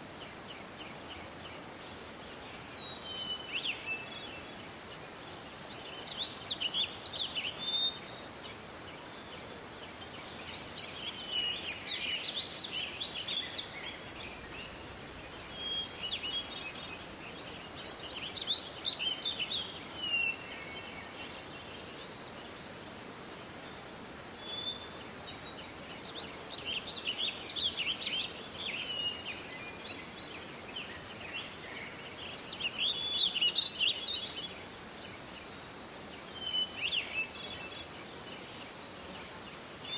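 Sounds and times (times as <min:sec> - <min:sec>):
faint steady hiss: 0:00.0 - 0:39.9
songbirds twittering: 0:00.0 - 0:39.9.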